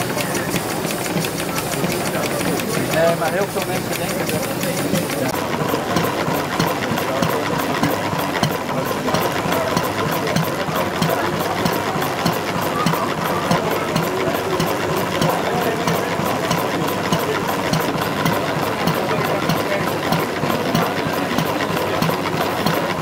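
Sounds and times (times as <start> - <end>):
model stationary engine running: 0.0 - 23.0.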